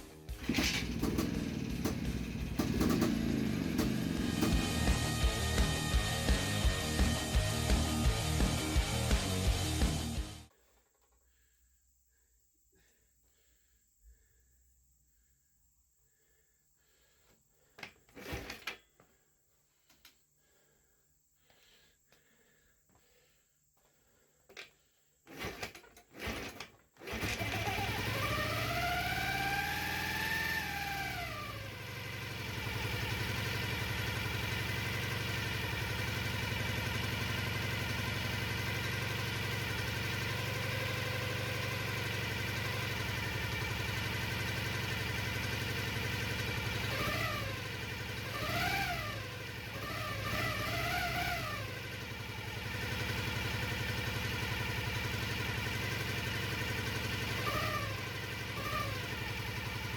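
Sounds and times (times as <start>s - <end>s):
motorcycle engine idling and revving: 0.0s - 10.5s, 22.3s - 59.9s.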